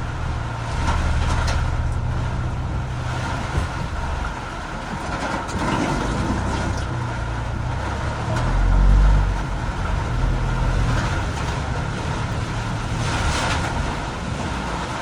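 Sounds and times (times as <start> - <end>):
heavy low rumble: 0.0 - 15.0
tyres rushing on wet road: 0.0 - 15.0.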